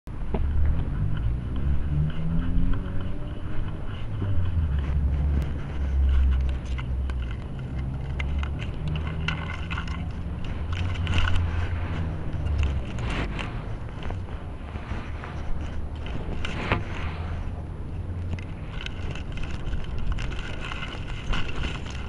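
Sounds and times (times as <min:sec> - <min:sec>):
microphone rubbing rumble: 0:00.1 - 0:22.0.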